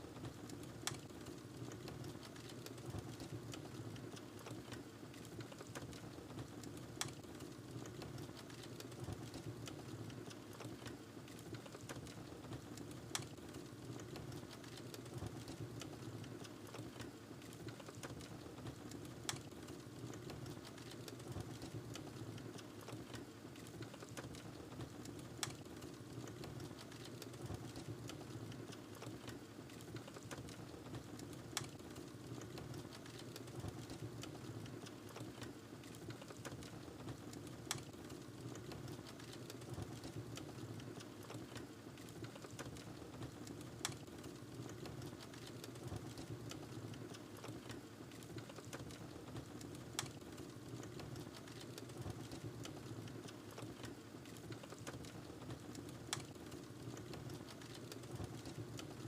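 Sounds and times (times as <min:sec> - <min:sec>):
fire crackling: 0:00.2 - 0:59.0.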